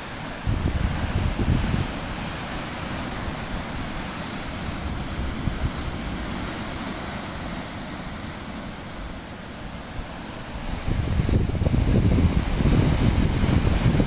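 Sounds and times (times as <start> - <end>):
surf churning against rocks: 0.0 - 14.0
wind buffeting microphone: 0.2 - 14.0.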